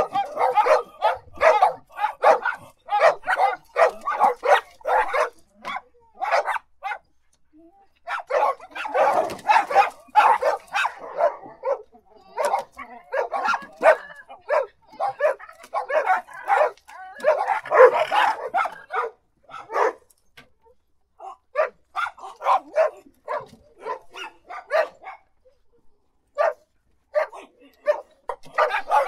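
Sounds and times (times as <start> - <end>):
dog barking: 0.0 - 7.1, 8.0 - 20.1, 21.2 - 25.6, 26.4 - 29.0.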